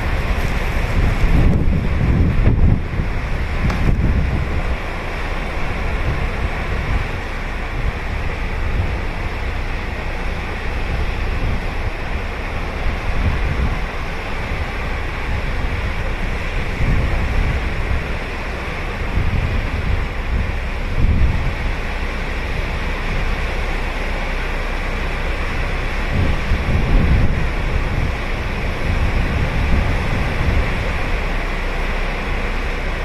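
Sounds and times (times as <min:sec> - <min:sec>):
ocean surf on beach: 0:00.0 - 0:33.0
wind buffeting microphone: 0:00.0 - 0:33.0.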